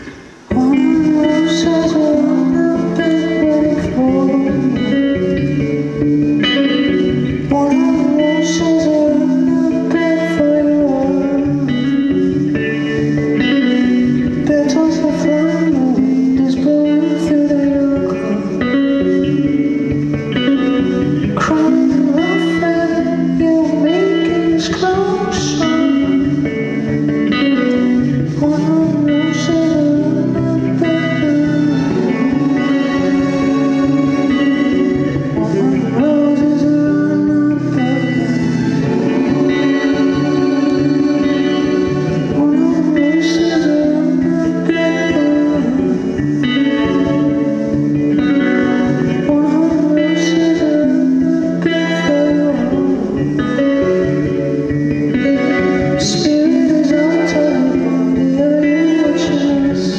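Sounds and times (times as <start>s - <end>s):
electric guitar melody: 0.0s - 59.9s.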